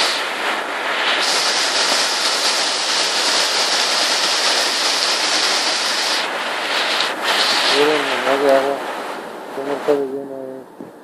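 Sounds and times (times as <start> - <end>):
river water rushing: 0.0 - 9.6
heavy rain pouring: 0.0 - 11.0.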